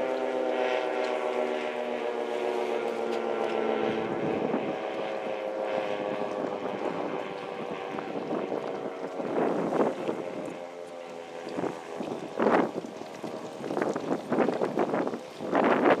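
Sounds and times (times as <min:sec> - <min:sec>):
wind on microphone: 0:02.4 - 0:16.0.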